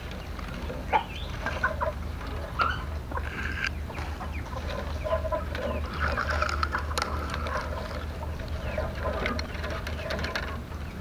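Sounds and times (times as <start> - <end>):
bamboo strips rustling and clicking: 0.0 - 11.0.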